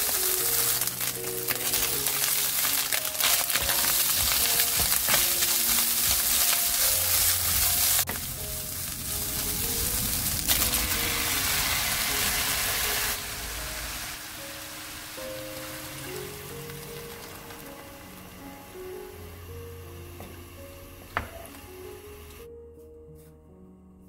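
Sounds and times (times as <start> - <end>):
food sizzling in a wok: 0.0 - 22.4
soft background music: 0.0 - 24.0.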